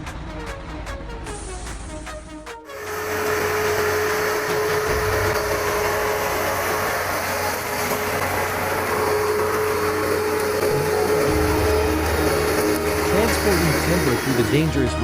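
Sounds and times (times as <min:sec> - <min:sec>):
electronic music: 0:00.0 - 0:15.0
heavy vehicle engine whining: 0:02.7 - 0:15.0.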